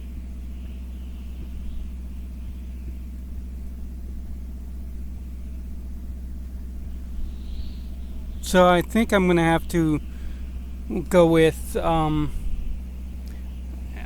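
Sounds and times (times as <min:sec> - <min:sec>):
steady engine-like hum: 0:00.0 - 0:14.0.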